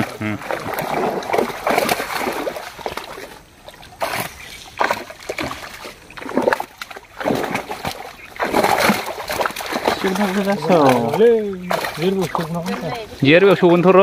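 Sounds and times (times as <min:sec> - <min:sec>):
fish splashing in water: 0:00.0 - 0:14.0.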